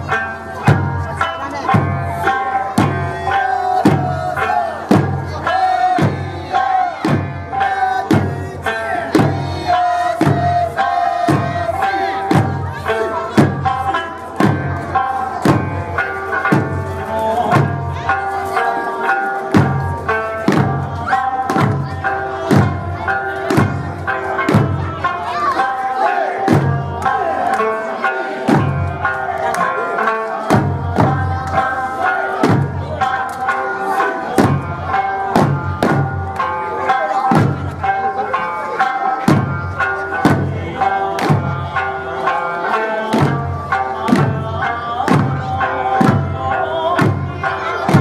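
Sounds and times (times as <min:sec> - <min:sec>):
large drums beating: 0:00.0 - 0:27.8, 0:28.4 - 0:48.0
person singing folk melody: 0:00.0 - 0:48.0.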